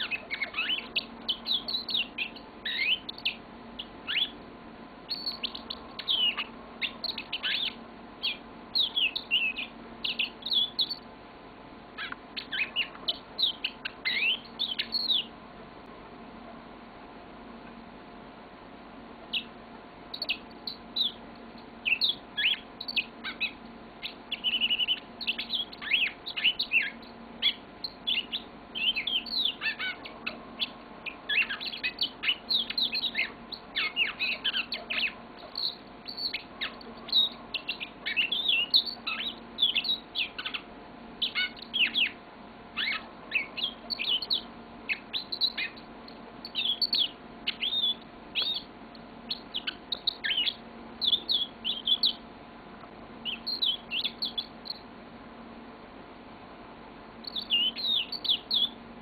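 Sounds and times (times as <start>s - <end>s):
canary singing: 0.0s - 11.2s, 11.8s - 15.4s, 19.2s - 52.4s, 53.2s - 54.9s, 57.2s - 58.9s.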